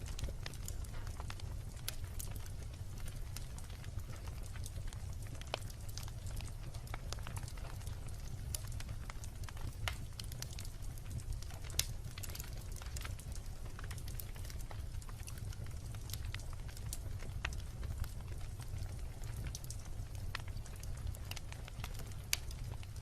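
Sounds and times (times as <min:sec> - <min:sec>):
bonfire pops and snaps: 0:00.0 - 0:23.0
fire low rumble: 0:00.0 - 0:23.0.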